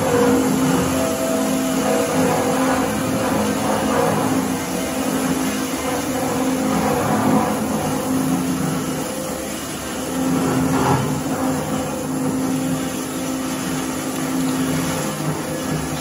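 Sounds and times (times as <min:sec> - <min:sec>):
circular saw motor hum: 0:00.0 - 0:16.0.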